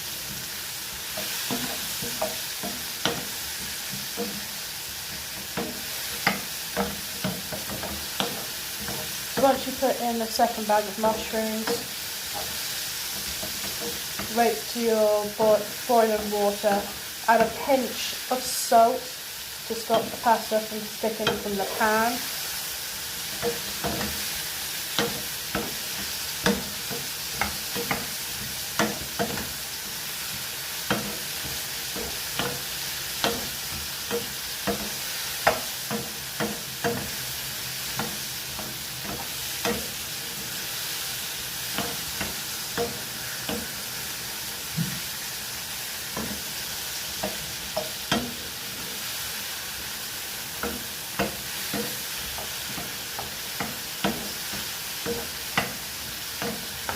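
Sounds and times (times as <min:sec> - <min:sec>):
mushrooms sizzling in a pan: 0:00.0 - 0:56.9.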